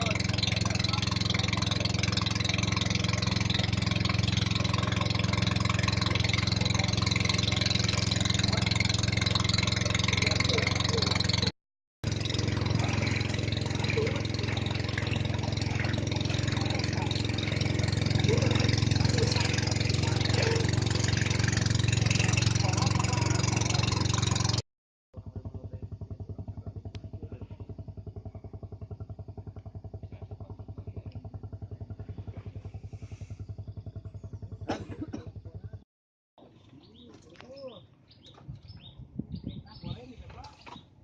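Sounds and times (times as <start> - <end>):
engine running steadily: 0.0 - 24.6, 25.2 - 35.8.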